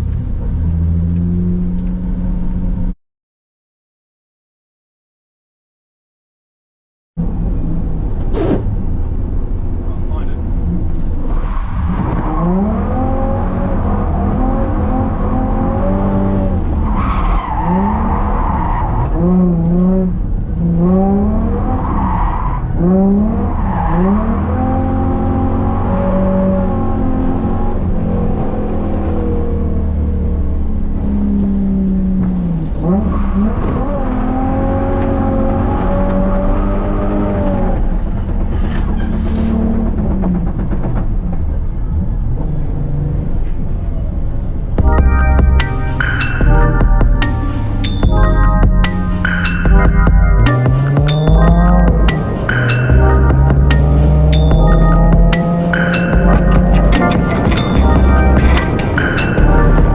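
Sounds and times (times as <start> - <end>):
car engine revving: 7.2 - 43.3, 44.8 - 59.9.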